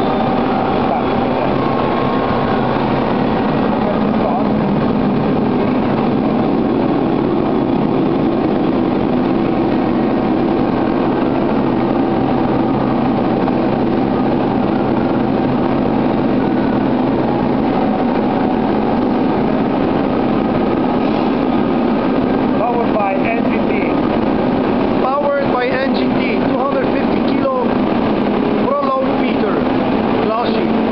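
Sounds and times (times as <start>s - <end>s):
glass-washing machine drone: 0.0s - 30.9s.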